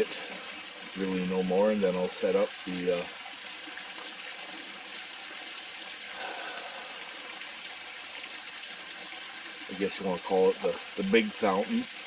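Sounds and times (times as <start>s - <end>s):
water rushing in pond: 0.0s - 12.0s.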